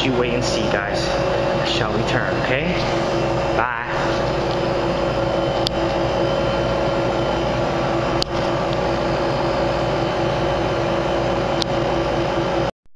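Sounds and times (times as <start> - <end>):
machine hum: 0.0 - 12.7.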